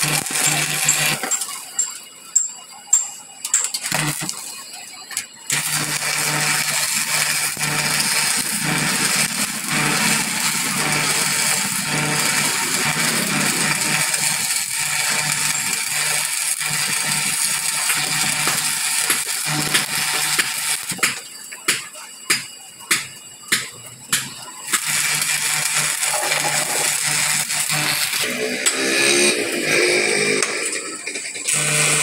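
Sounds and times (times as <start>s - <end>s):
arc welding crackling hiss: 0.0s - 32.0s.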